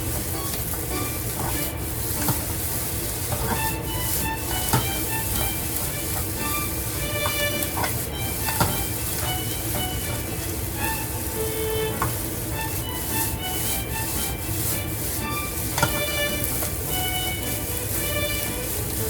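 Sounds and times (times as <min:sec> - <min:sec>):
rice sizzling in a hot pan: 0:00.0 - 0:19.0
utensil clicking against pan: 0:00.0 - 0:19.0.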